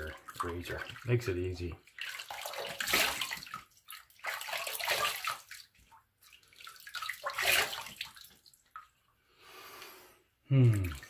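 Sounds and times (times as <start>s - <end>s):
water splashing at a sink: 0.0s - 9.0s, 10.6s - 11.0s.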